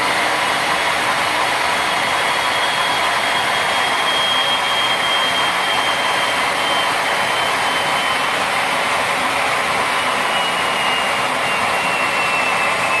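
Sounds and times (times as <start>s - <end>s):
jet engine roaring with turbine whine: 0.0s - 13.0s.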